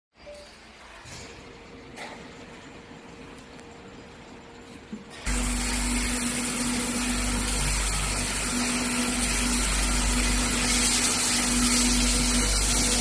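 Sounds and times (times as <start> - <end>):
washing machine running: 0.7 - 13.0.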